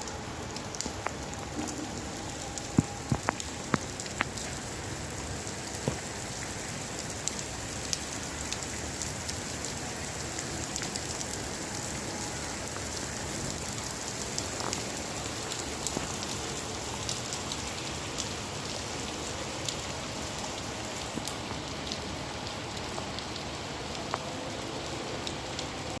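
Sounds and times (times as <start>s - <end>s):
rain drop ticks: 0.0s - 26.0s
steady rain falling: 0.0s - 26.0s.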